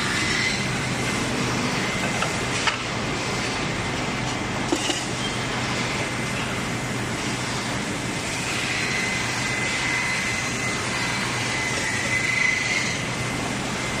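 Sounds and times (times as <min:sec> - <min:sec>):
grinding machine: 0:00.0 - 0:14.0.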